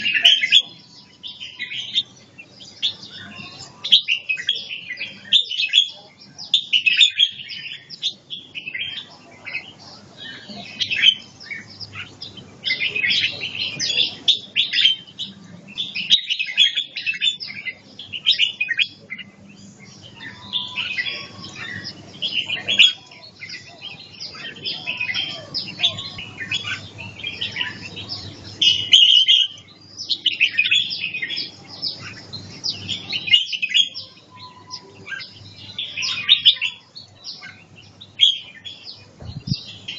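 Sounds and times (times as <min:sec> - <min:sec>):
bird singing chirpy warbled phrases: 0:00.0 - 0:39.9.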